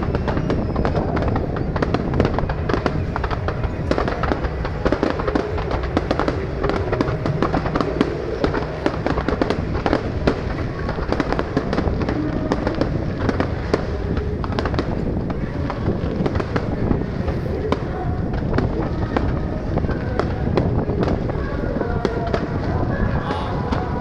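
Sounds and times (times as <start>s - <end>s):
fireworks bangs and crackles: 0.0s - 24.0s
low rumble of booms: 0.0s - 24.0s.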